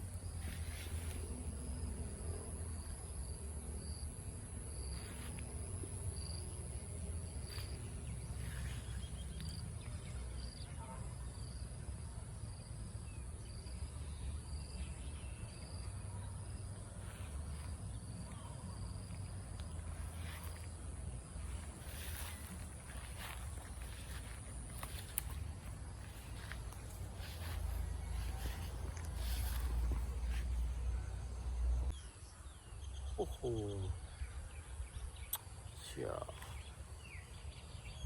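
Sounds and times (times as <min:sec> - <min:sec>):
insects droning and chirping: 0:00.0 - 0:38.0.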